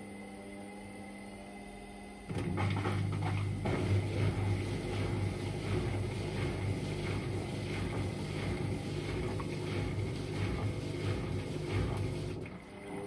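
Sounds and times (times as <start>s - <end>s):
washer dryer drum humming: 0.0s - 13.0s.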